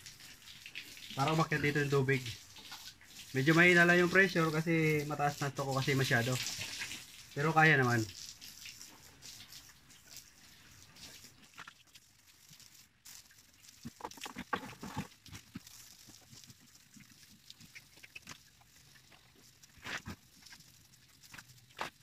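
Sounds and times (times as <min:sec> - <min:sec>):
water hose spraying: 0:00.0 - 0:22.0.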